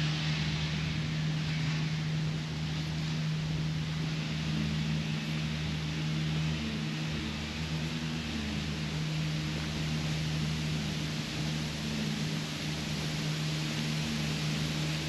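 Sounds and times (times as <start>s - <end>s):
constant hiss: 0.0s - 15.0s
low mechanical hum: 0.0s - 15.0s.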